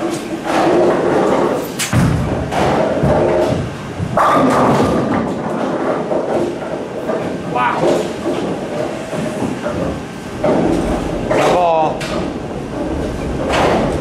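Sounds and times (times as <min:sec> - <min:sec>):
bowling ball rolling rumble: 0:00.0 - 0:14.0
bowling ball thud: 0:00.4 - 0:14.0.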